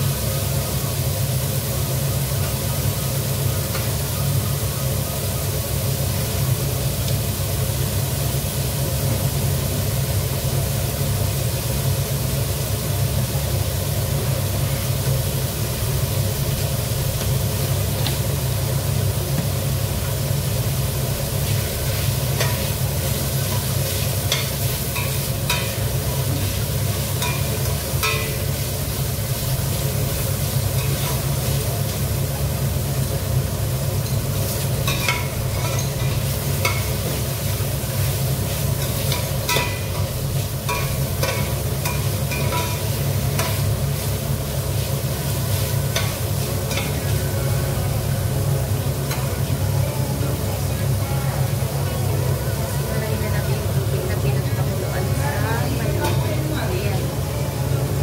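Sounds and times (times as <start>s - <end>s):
chicken sizzling in a pot: 0.0s - 58.0s.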